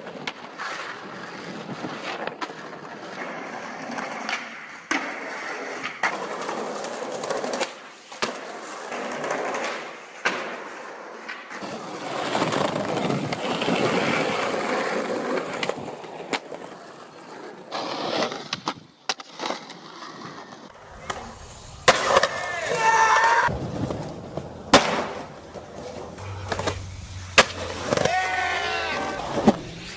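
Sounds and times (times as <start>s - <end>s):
skateboard clacks: 0.0s - 29.8s
skateboard wheels rolling on pavement: 0.0s - 29.9s.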